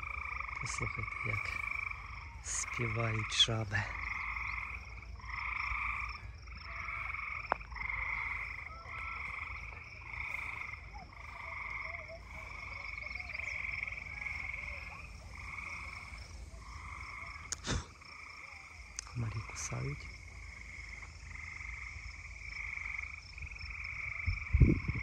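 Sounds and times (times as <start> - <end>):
frogs trilling in chorus: 0.0 - 25.0.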